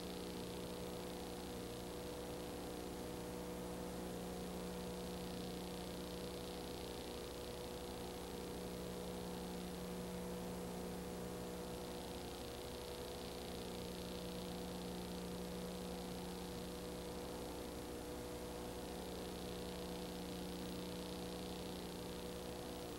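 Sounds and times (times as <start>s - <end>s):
electrical hum with hiss: 0.0s - 22.9s.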